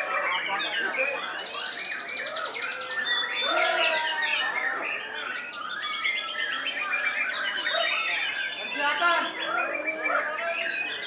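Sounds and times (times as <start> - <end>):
caged birds calling: 0.0 - 11.0
songbird whistling and trilling: 0.9 - 11.0.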